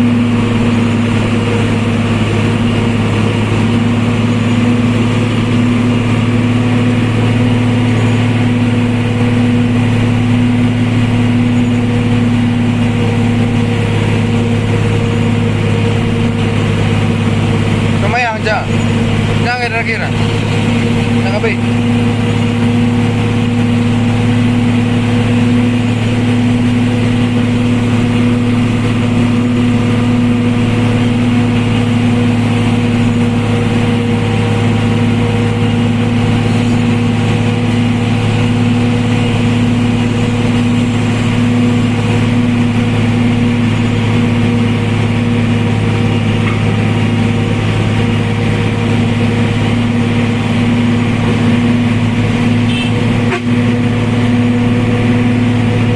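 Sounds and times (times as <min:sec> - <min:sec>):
vehicle engine running steadily: 0:00.0 - 0:55.9.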